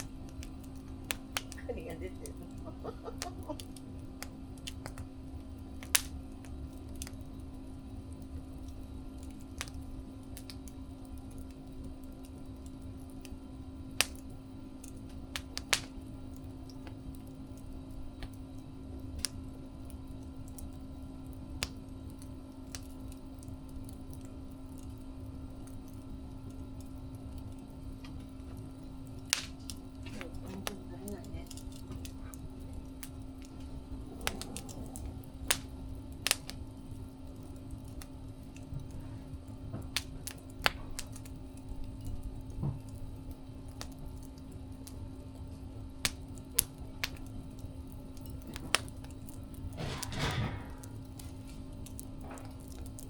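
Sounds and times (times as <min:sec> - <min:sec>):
fire rumbling: 0:00.0 - 0:53.0
steady hum: 0:00.0 - 0:53.0
wood crackling and popping: 0:00.0 - 0:53.0.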